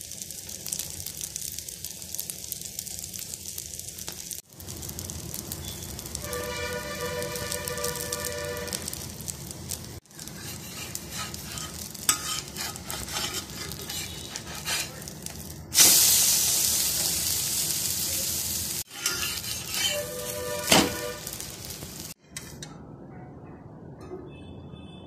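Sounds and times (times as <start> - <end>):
omelette sizzling in pan: 0.0 - 22.2.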